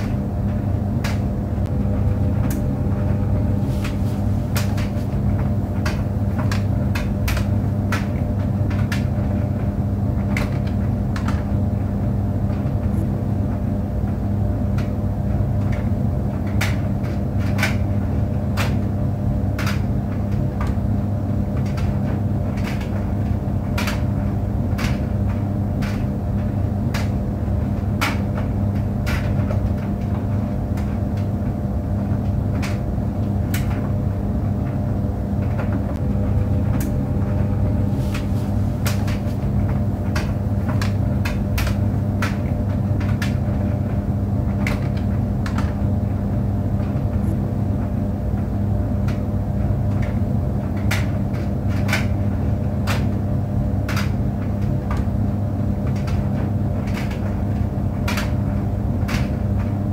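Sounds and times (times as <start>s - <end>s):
tumble dryer humming: 0.0s - 59.9s.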